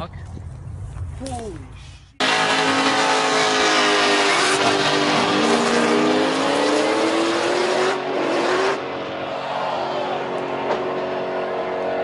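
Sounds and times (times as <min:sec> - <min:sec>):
car engine accelerating hard: 0:02.2 - 0:12.0.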